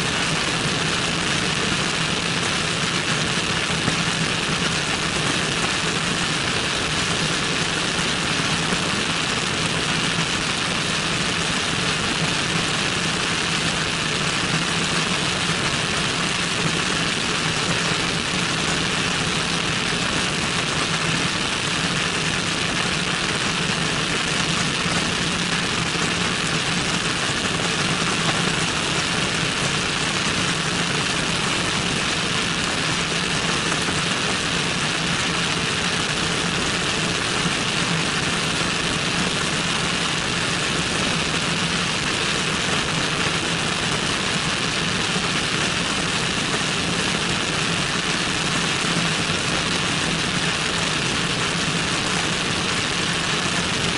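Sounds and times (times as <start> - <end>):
airflow over microphone: 0.0 - 53.9.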